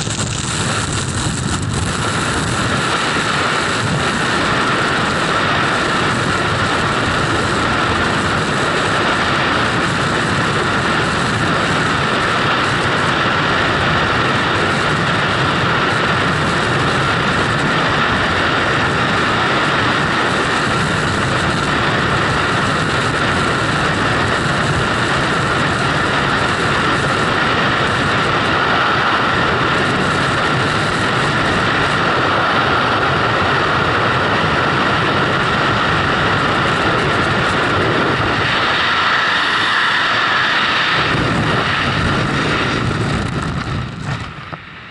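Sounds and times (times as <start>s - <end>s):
freefall wind rushing: 0.0s - 44.9s.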